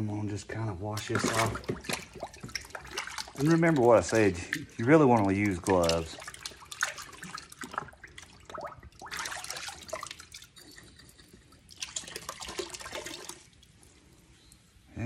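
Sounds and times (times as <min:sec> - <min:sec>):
water splashing and sloshing: 0:00.1 - 0:14.8
water gurgling: 0:00.8 - 0:13.9
water pouring from bottle: 0:00.9 - 0:14.1.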